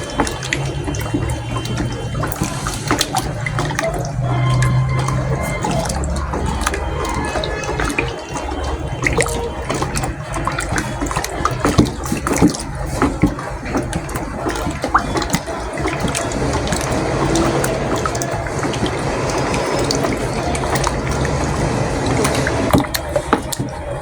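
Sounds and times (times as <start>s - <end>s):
stirrer knocking container: 0.0s - 24.0s
thick liquid sloshing: 0.0s - 24.0s.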